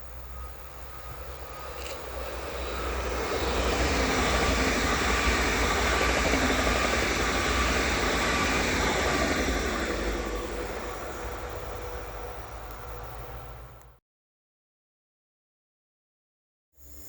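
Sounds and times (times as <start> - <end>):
electric train passing at speed: 0.0 - 14.0.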